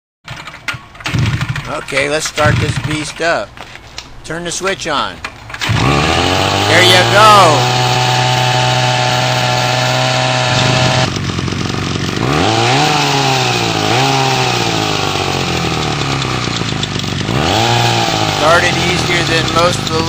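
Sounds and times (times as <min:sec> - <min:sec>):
chainsaw engine revving: 0:00.3 - 0:03.2, 0:05.6 - 0:20.0.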